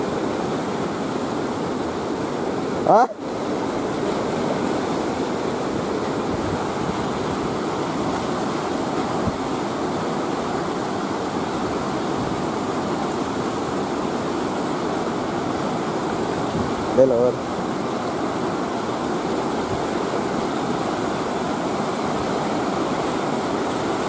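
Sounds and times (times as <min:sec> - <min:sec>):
flowing river water: 0:00.0 - 0:24.0.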